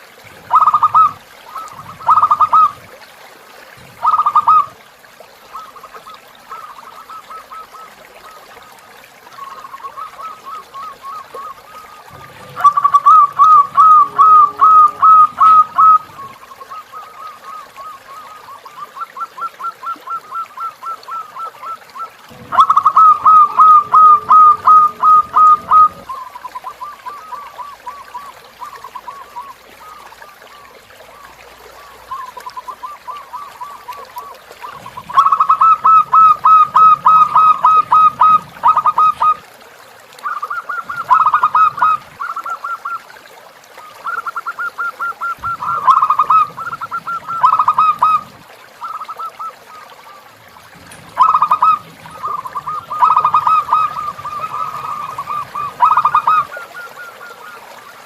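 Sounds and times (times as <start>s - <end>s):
doves cooing: 0.2s - 2.9s, 3.7s - 4.8s, 5.4s - 39.6s, 40.2s - 58.0s.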